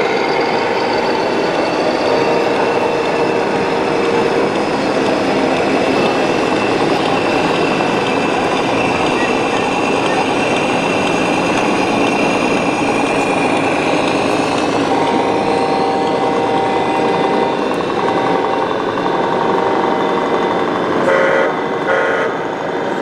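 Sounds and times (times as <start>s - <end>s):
electronic tone: 0.0s - 10.5s, 11.2s - 21.6s
electronic diesel engine sounds: 0.0s - 23.0s.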